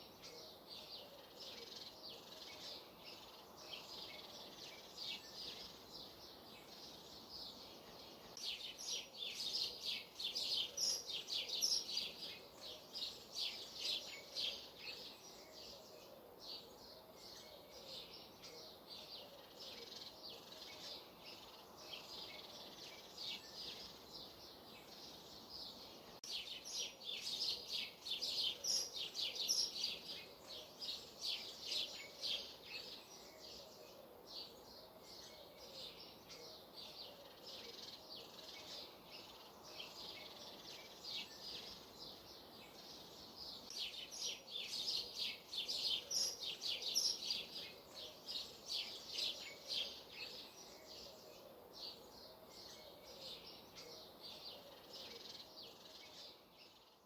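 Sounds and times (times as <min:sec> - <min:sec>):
faint outdoor hiss: 0:00.0 - 0:57.0
songbirds chirping: 0:00.0 - 0:57.0.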